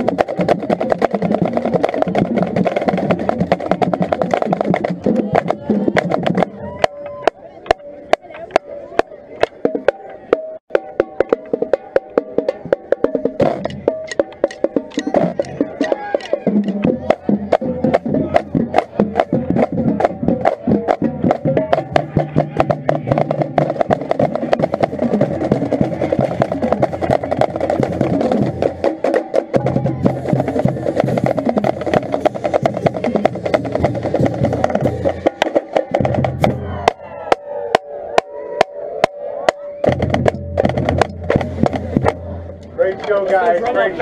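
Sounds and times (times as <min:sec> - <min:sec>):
bass drums: 0:00.0 - 0:08.6, 0:12.5 - 0:42.8
marching snare drum rolls: 0:00.0 - 0:08.6, 0:09.4 - 0:43.9.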